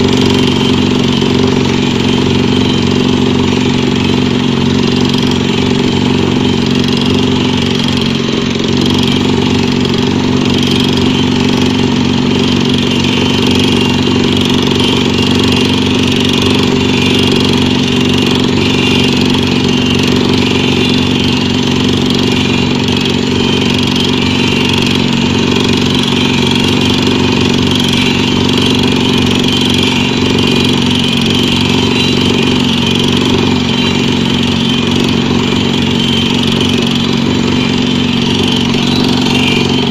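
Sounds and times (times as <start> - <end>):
drilling rig machinery humming: 0.0 - 39.9.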